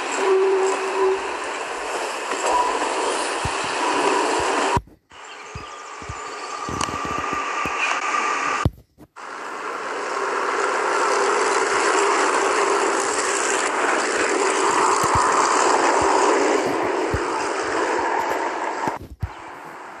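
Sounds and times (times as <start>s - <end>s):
railcar passing with droning tone: 0.0s - 8.6s, 9.2s - 20.0s.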